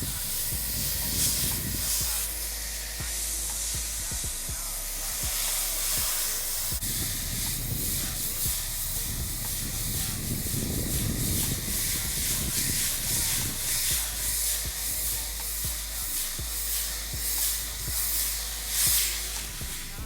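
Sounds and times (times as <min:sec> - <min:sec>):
low rumble: 0:00.0 - 0:20.0
water spraying onto metal coil: 0:00.0 - 0:20.0.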